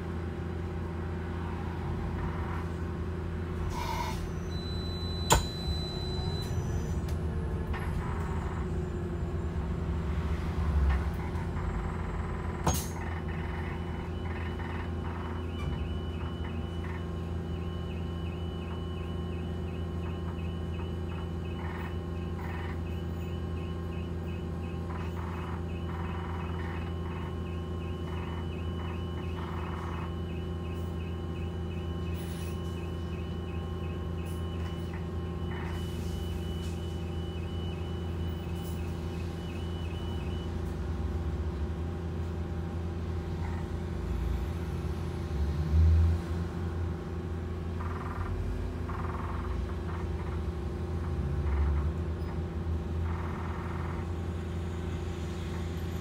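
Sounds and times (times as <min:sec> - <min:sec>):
bus machinery drone: 0:00.0 - 0:56.0.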